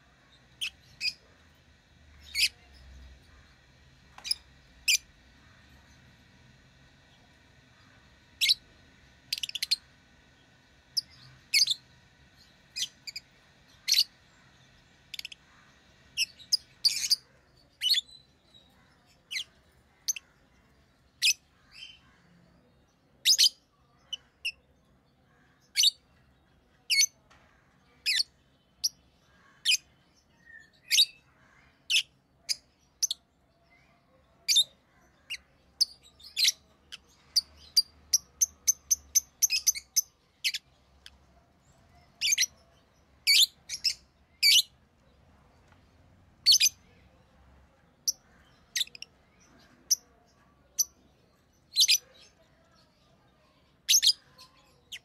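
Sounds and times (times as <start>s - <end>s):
lovebirds chirping: 0.0s - 6.5s, 7.1s - 24.6s, 26.9s - 55.0s.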